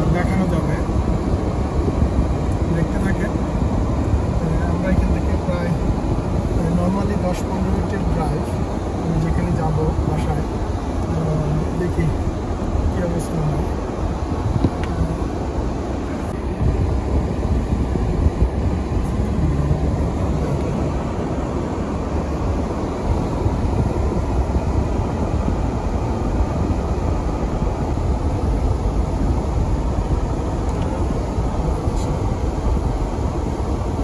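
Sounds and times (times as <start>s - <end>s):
car driving on snowy road: 0.0s - 34.0s
car engine and tyre noise: 0.0s - 34.0s.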